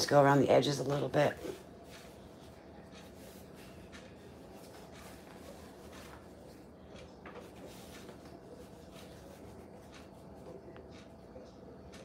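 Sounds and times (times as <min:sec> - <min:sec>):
dough rustling and tapping: 0:00.0 - 0:12.0
steady low hum: 0:00.0 - 0:12.0.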